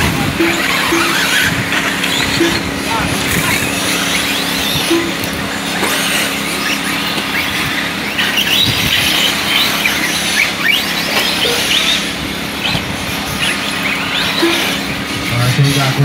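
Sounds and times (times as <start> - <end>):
electric motors whining: 0.0 - 16.0
steady low hum: 0.0 - 16.0.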